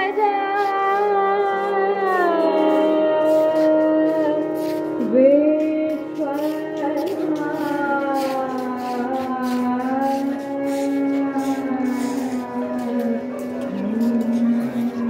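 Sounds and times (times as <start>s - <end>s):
harmonium: 0.0s - 15.0s
woman singing: 0.0s - 15.0s.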